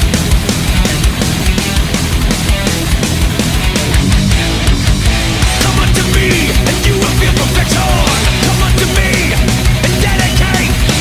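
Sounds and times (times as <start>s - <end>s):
fast driving drum beat: 0.0s - 11.0s
heavy rock music: 0.0s - 11.0s.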